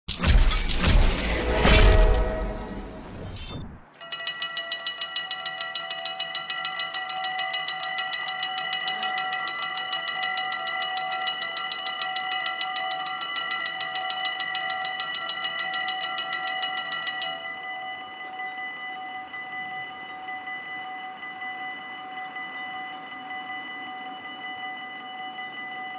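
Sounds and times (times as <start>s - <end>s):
level-crossing warning bells: 0.8s - 25.9s.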